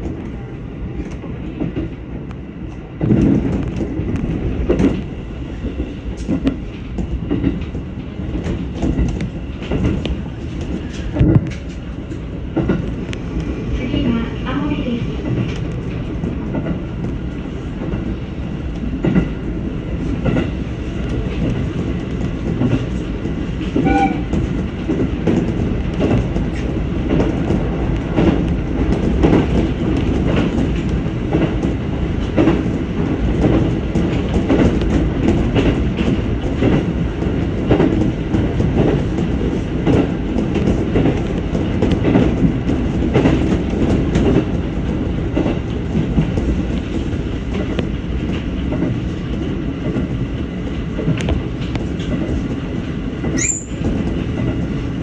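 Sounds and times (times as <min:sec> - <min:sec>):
train running on track: 0:00.0 - 0:55.0.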